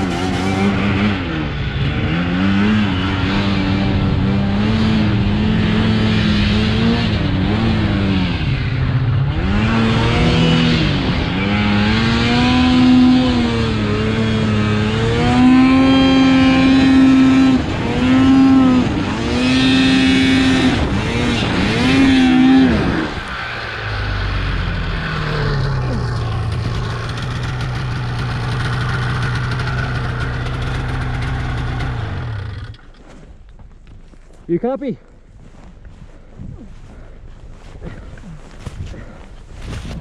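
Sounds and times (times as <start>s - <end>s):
snowmobile engine revving: 0.0s - 32.8s.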